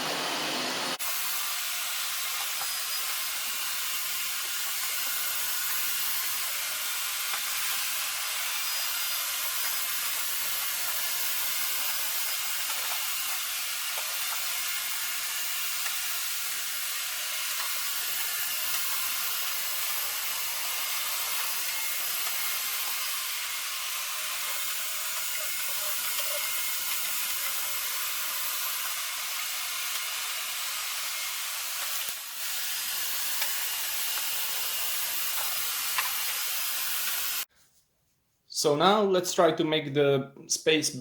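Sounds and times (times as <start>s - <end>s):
robot vacuums whirring: 0.0s - 37.5s.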